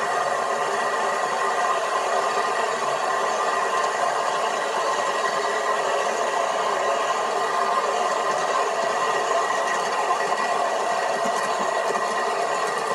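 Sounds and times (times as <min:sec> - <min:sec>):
miniature train running on track: 0:00.0 - 0:12.9.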